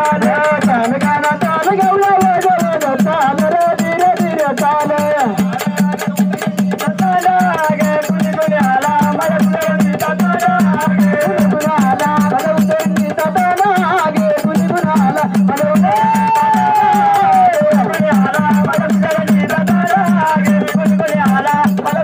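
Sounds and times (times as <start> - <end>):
fast steady drumming: 0.0 - 22.0.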